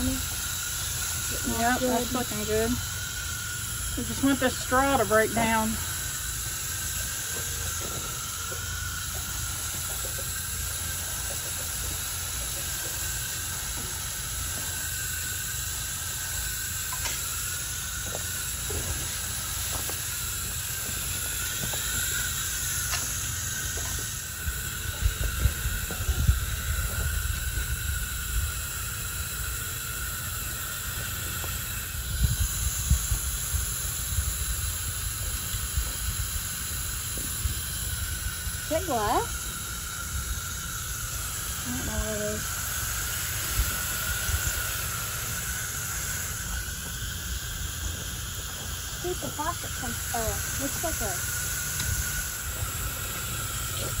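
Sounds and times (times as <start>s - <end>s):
hose nozzle spraying water: 0.0s - 54.0s.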